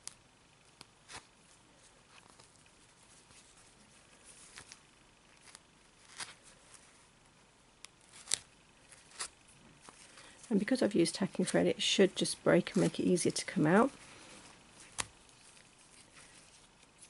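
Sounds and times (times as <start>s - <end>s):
fabric rustling and scratching: 1.0s - 7.1s, 8.0s - 11.5s, 12.5s - 17.0s.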